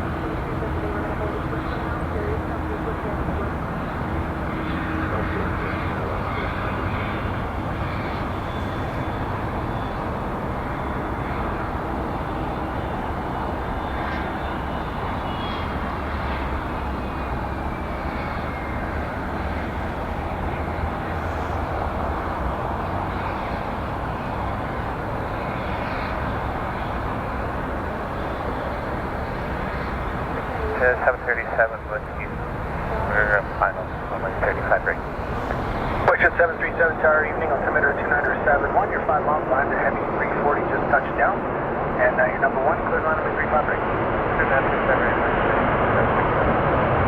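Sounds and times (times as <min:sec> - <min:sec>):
jet engines rushing: 0:00.0 - 0:47.0.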